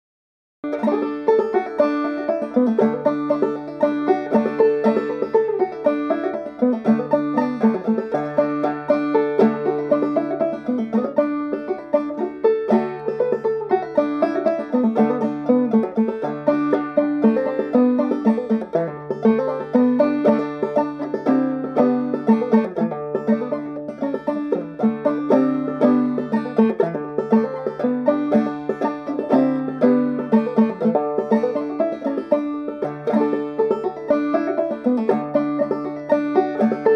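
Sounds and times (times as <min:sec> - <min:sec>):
banjo played clawhammer style: 0:00.6 - 0:36.9.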